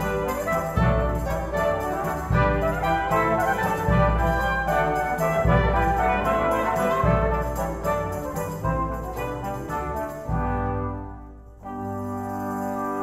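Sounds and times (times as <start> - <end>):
instrumental music with steady beat: 0.0 - 13.0.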